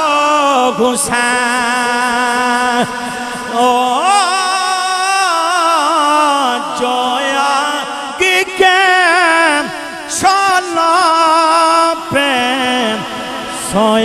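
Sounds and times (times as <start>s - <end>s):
man chanting into a microphone: 0.0s - 14.0s.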